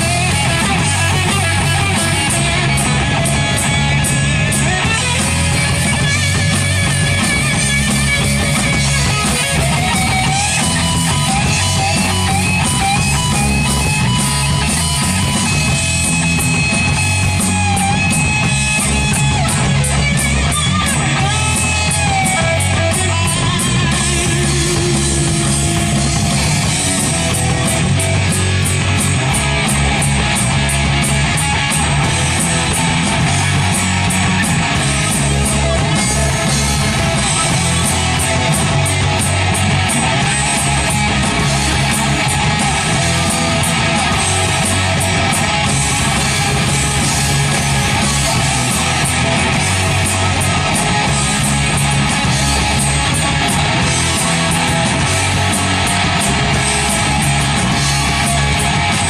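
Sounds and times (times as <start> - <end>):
bass guitar: 0.0 - 59.0
distorted electric guitar lead: 0.0 - 59.0
drum kit with cymbals: 0.0 - 59.0.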